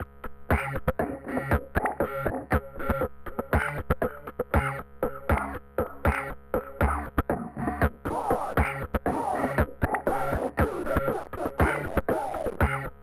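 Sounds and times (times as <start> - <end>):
instrumental hip hop beat: 0.0 - 13.0.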